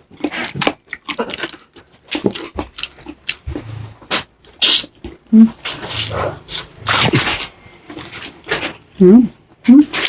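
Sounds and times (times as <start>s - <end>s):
person chewing and smacking: 0.0s - 3.5s, 4.1s - 8.8s.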